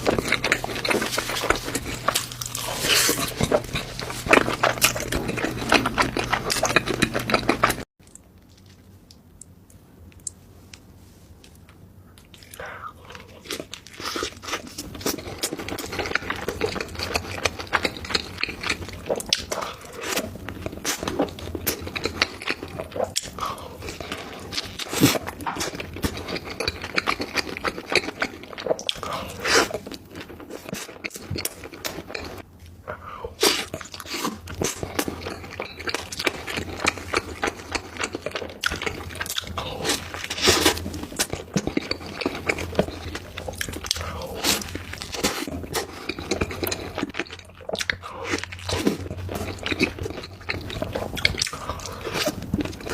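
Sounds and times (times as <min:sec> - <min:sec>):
chewing and crunching: 0:00.0 - 0:09.6, 0:11.6 - 0:52.9.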